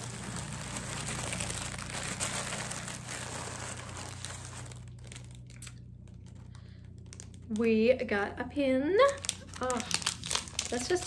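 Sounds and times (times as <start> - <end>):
packaging crinkling and rustling: 0.0 - 7.8, 9.0 - 11.0.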